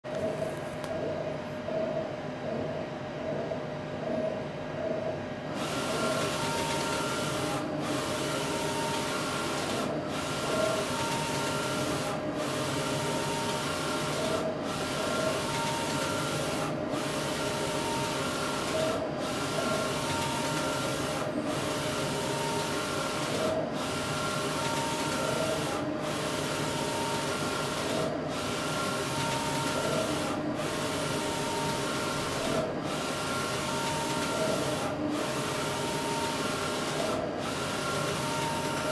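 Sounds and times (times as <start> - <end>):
printer whirring with a whine: 0.1 - 38.9.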